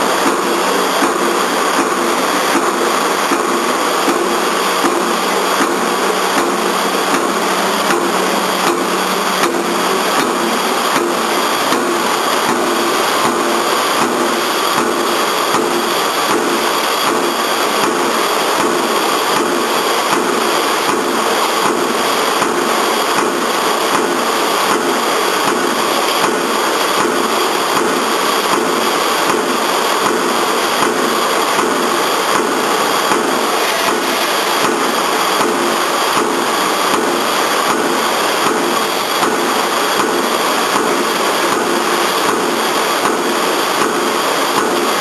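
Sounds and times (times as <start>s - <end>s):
power press punching steel: 0.0s - 45.0s.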